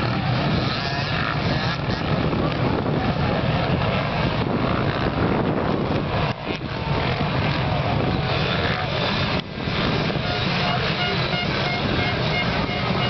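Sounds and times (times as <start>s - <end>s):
motocross motorcycles racing: 0.0s - 13.0s.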